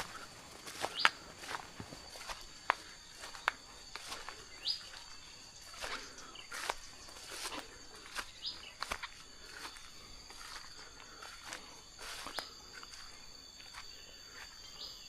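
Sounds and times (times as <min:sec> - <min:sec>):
footsteps walking: 0:00.0 - 0:14.6
high-pitched insect drone: 0:00.0 - 0:15.0.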